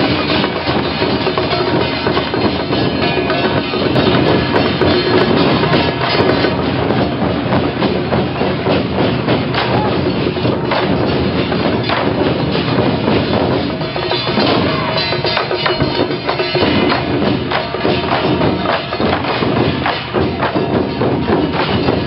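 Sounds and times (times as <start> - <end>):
sharp clacks and clicks: 0.0 - 22.0
traditional percussion and music: 0.0 - 22.0.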